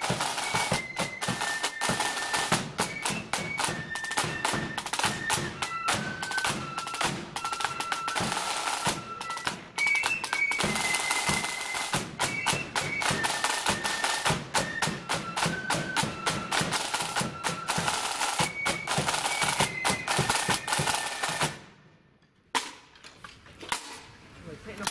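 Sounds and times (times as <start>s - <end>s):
snare drumming: 0.0s - 21.6s
flute melody: 0.0s - 21.7s.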